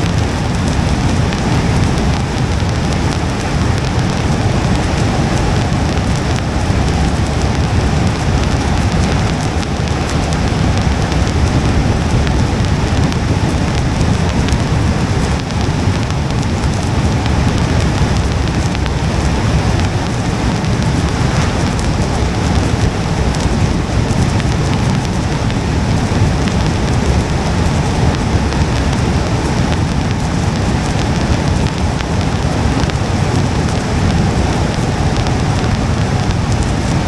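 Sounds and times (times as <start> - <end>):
low constant rumble: 0.0 - 37.0
rain on a car: 0.0 - 37.0.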